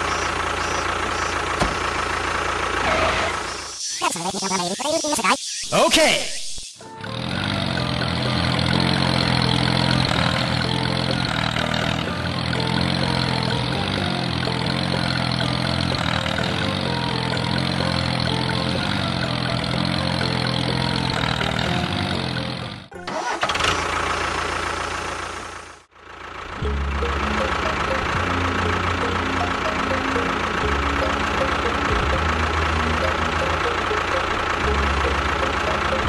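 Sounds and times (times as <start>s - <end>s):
engine idling: 0.0s - 4.5s, 6.9s - 36.0s.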